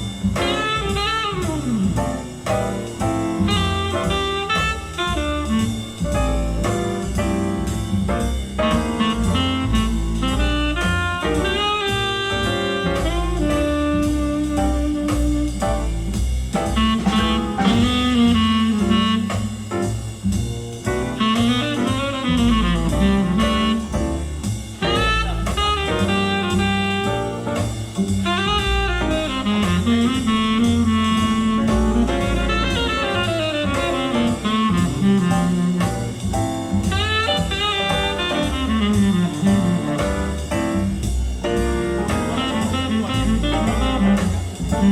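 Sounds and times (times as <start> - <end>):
drums: 0.0 - 44.9
saxophone: 0.3 - 7.8, 8.6 - 20.1, 21.0 - 44.9.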